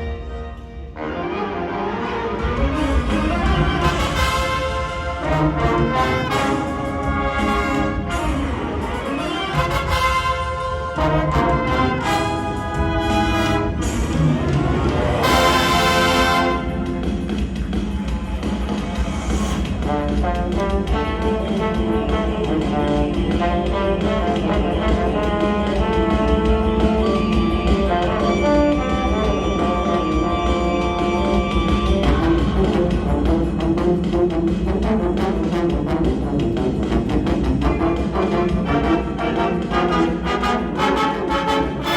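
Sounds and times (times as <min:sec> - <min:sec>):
brass wind ensemble playing: 0:00.0 - 0:17.6, 0:19.2 - 0:41.9.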